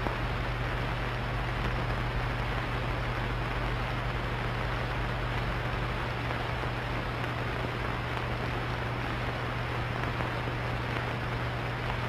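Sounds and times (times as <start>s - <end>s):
constant low hum: 0.0s - 12.0s
film soundtrack hiss: 0.0s - 12.0s.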